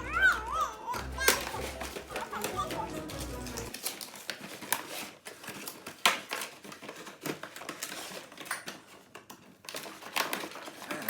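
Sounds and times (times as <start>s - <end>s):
small hard toys clicking: 0.0s - 11.0s.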